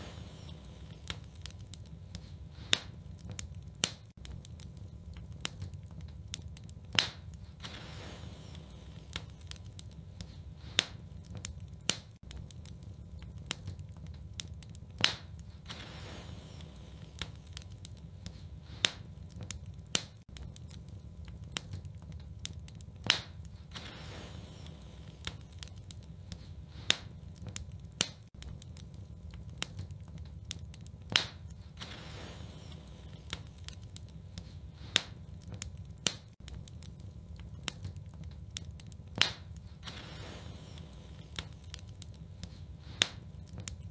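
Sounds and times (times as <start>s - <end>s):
low fire rumble: 0.0s - 43.9s
wood fire crackling: 0.0s - 43.9s.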